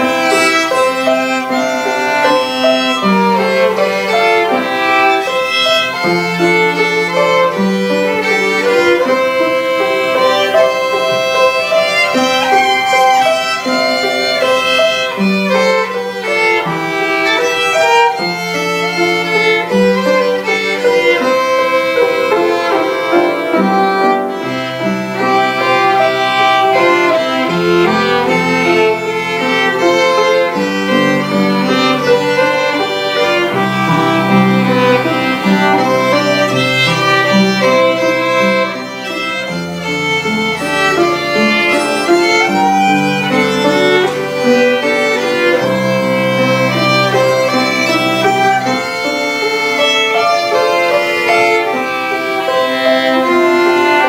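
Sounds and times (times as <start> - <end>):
low accompanying instrument: 0.0 - 54.0
violin duet: 0.0 - 54.0.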